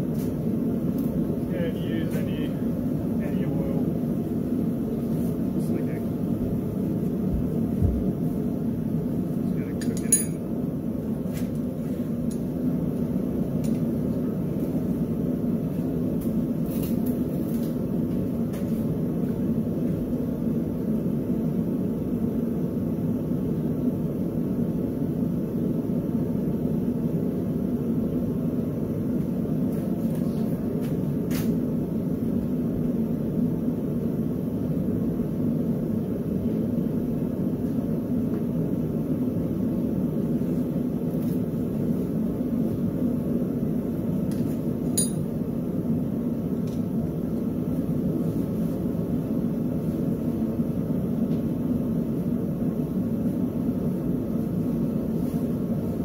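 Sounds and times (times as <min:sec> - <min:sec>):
low mechanical roar: 0:00.0 - 0:56.0.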